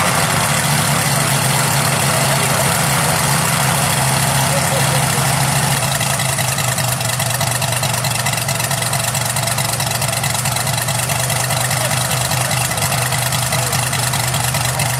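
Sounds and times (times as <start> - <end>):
model aircraft engine idling: 0.0 - 14.9.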